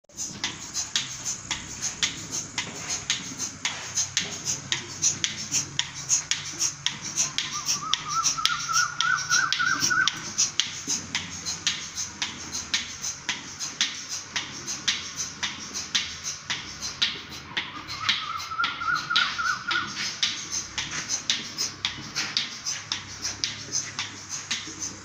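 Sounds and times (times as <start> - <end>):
milking machine pulsator ticking: 0.1 - 25.0
vacuum pump hum: 0.1 - 25.0.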